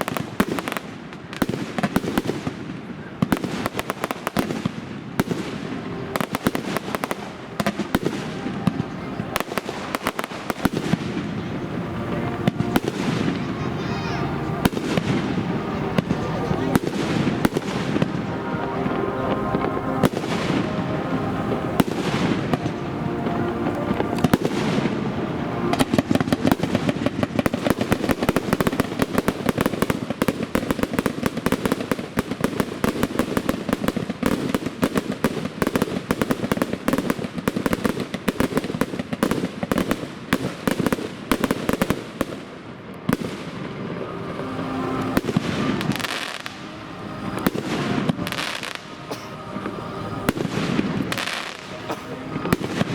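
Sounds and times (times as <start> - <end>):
fireworks bursting and crackling: 0.0 - 52.9
music playing: 3.0 - 39.4, 41.4 - 52.9.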